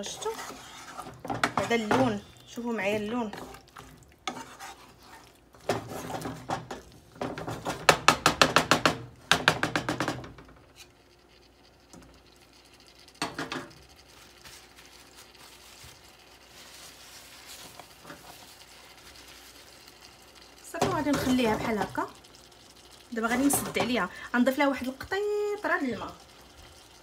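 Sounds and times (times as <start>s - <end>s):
food sizzling: 0.0s - 27.0s.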